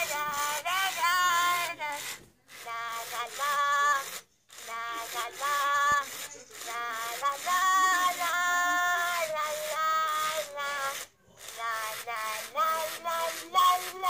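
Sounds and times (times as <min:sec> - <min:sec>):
toy electronic voice chattering: 0:00.0 - 0:14.0
toy motor whirring: 0:00.0 - 0:14.0.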